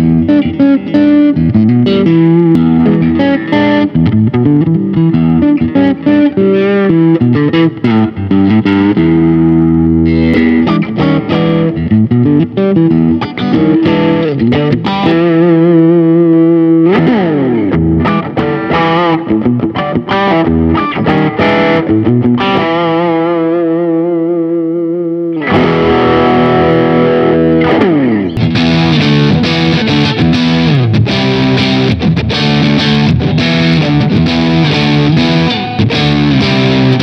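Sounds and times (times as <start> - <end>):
overdriven electric guitar: 0.0 - 37.0.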